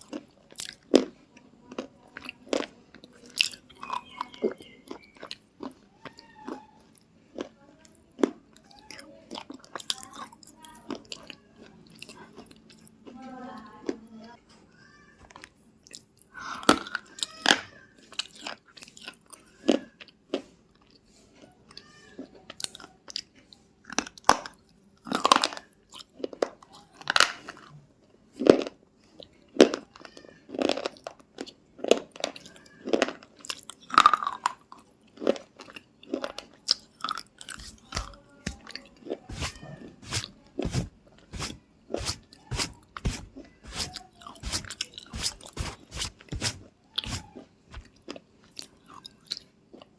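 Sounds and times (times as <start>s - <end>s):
crunchy food being chewed: 0.0s - 13.2s, 15.3s - 49.9s.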